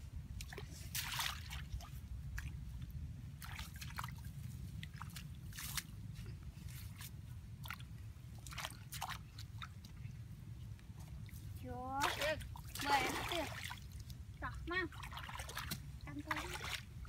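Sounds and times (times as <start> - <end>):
muddy water sloshing and dripping: 0.1 - 17.0
wet mud squelching: 0.4 - 10.2, 11.0 - 17.0.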